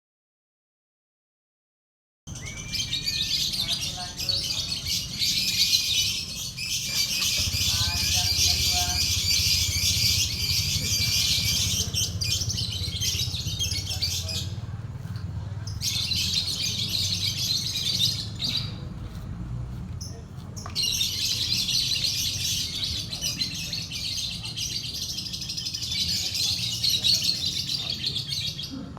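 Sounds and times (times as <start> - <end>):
lovebird singing in chattering trills: 2.3 - 19.2, 20.0 - 28.9.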